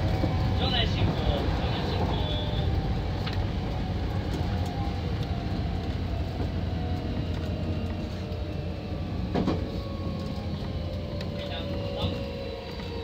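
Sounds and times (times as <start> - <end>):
train wheel-on-rail rumble: 0.0 - 13.0.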